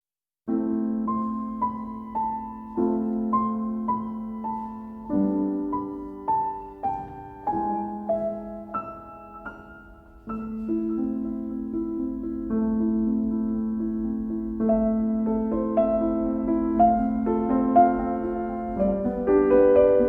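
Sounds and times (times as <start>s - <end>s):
gentle piano music: 0.5s - 20.0s.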